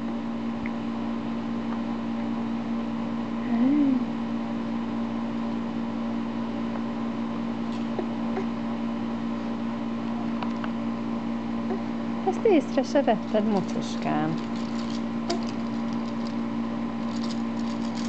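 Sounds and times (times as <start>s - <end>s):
appliance humming: 0.0s - 18.0s.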